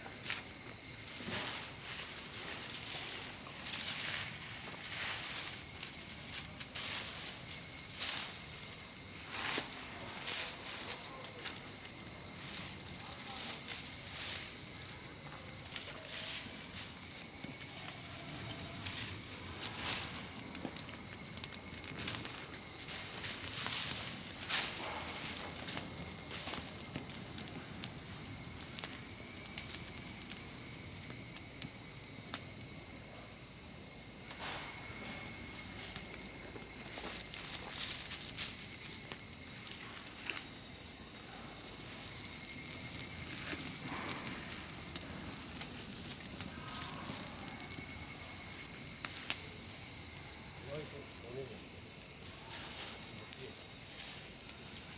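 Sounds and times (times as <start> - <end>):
high-pitched insect chorus: 0.0 - 54.9
campfire pops and crackles: 0.1 - 50.2.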